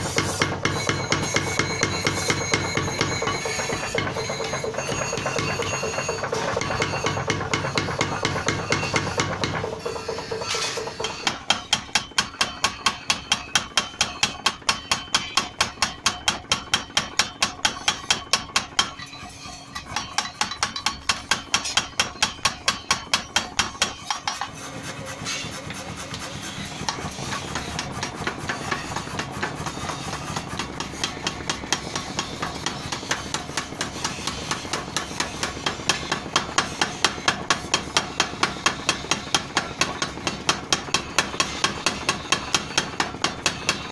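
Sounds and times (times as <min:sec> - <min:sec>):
power hammer pounding steel: 0:00.0 - 0:43.9.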